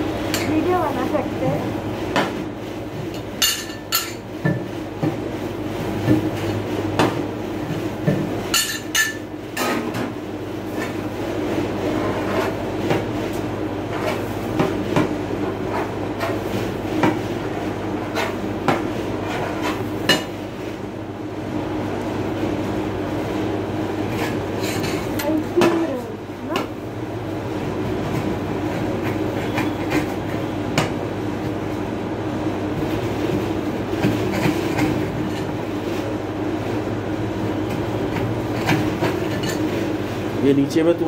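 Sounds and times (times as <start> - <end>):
refrigeration machine hum: 0.0 - 41.0.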